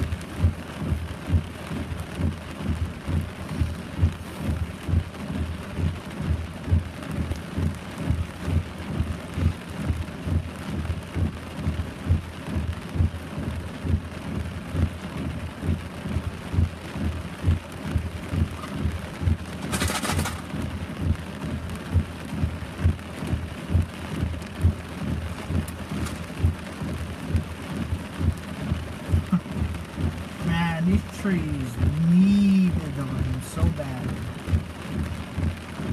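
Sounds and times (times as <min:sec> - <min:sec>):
heavy rain falling: 0:00.0 - 0:35.9
large raindrops thudding: 0:00.0 - 0:35.9.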